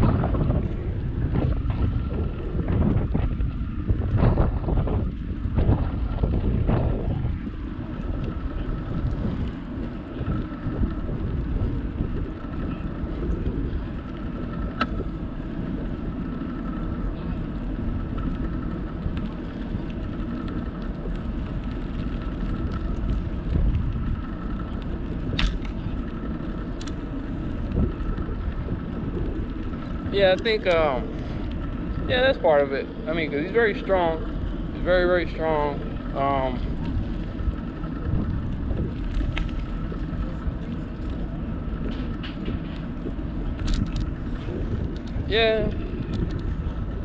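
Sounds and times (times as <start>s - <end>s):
tyres rolling on asphalt: 0.0s - 47.0s
wind buffeting microphone: 0.0s - 47.0s.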